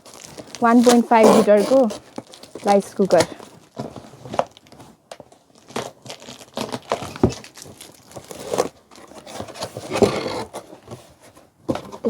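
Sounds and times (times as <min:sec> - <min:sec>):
packaging tearing: 0:00.0 - 0:04.8, 0:05.5 - 0:10.5
plastic wrap and cardboard crinkling: 0:00.0 - 0:12.0.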